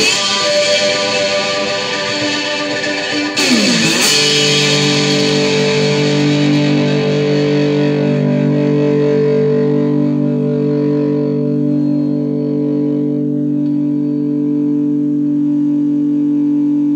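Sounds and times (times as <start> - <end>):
guitar chord ringing: 0.0 - 16.9.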